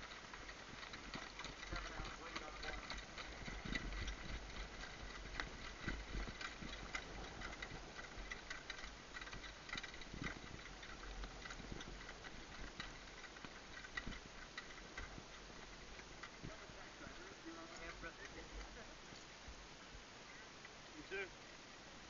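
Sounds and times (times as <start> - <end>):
harness rattling: 0.0 - 19.2
hooves knocking: 0.0 - 19.6.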